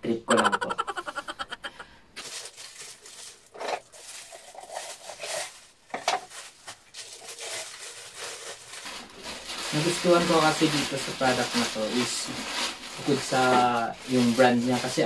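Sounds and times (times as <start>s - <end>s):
plastic wrapping crinkling: 2.2s - 15.0s.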